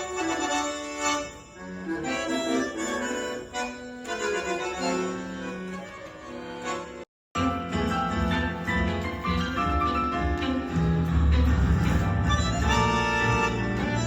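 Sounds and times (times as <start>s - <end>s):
accordion playing sustained notes: 0.0s - 14.0s.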